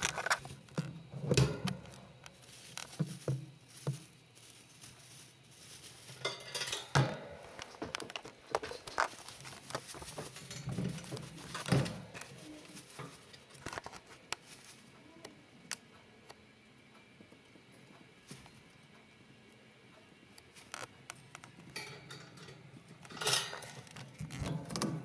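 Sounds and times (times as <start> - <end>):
gerbils scrabbling and rustling: 0.0 - 16.4, 17.2 - 19.3, 20.0 - 25.0.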